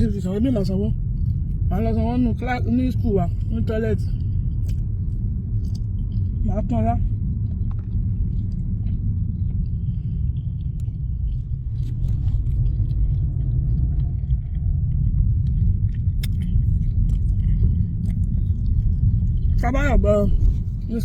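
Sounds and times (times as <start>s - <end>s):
low rumble inside car: 0.0s - 21.0s.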